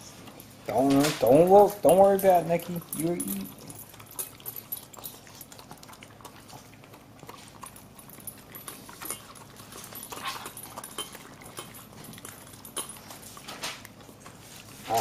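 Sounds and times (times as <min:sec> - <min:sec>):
dogs chewing and licking: 0:00.0 - 0:15.0.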